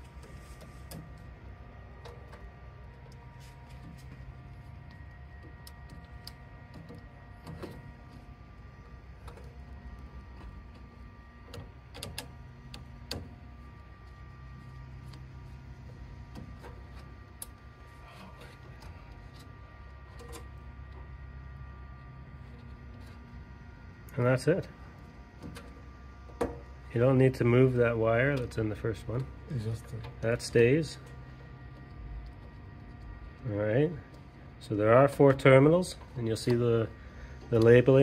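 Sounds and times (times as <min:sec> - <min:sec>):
low background hum: 0:00.0 - 0:38.0.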